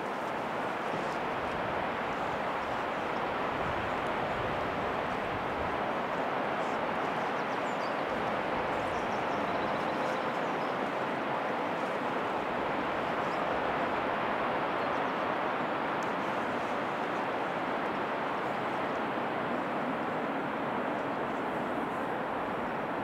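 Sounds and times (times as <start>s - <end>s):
steady outdoor rushing noise: 0.0s - 23.0s.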